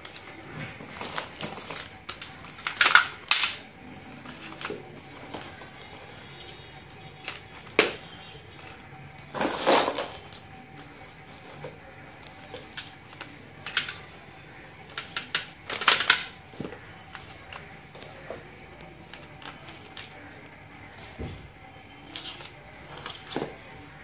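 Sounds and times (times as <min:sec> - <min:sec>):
pencil sticks clicking and clattering: 0:00.0 - 0:21.1, 0:22.0 - 0:23.9.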